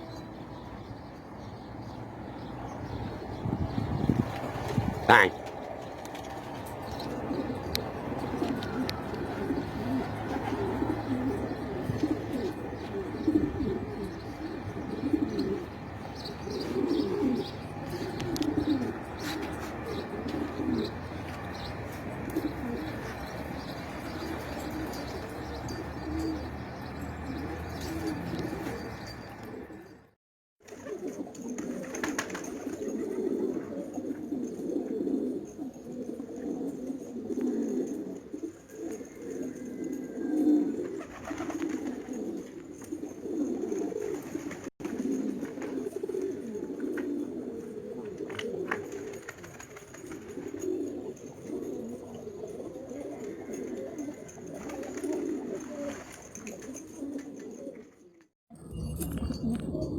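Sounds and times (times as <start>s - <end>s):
pigeons cooing: 1.8s - 30.0s, 30.6s - 58.2s.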